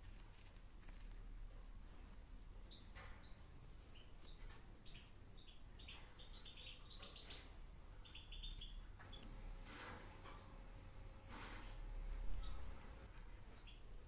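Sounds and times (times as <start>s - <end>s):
small cage bird chirping: 0.0s - 14.0s.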